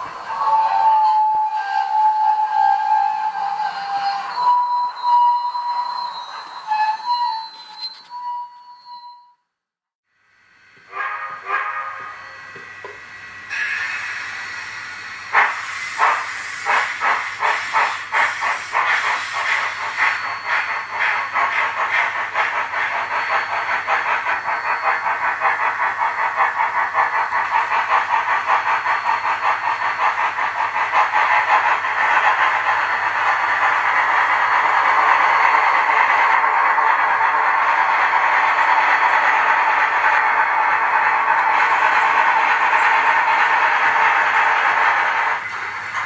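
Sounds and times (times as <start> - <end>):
steam hissing: 0.0 - 6.8, 10.3 - 46.0
steam locomotive chuffing: 0.0 - 8.0, 10.8 - 46.0.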